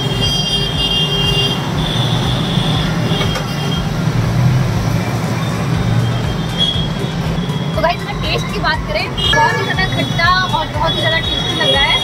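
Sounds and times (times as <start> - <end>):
road traffic engines: 0.0 - 12.0.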